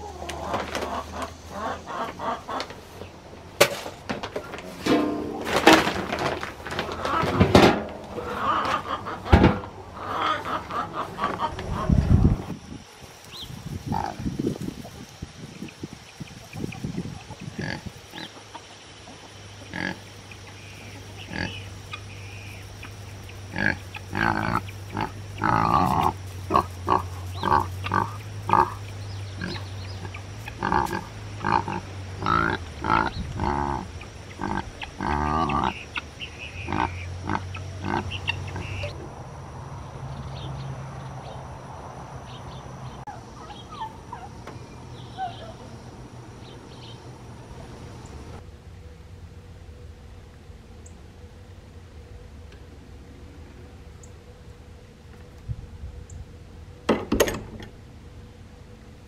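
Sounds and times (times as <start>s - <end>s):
chickens and guinea fowl calling: 0.0s - 48.4s.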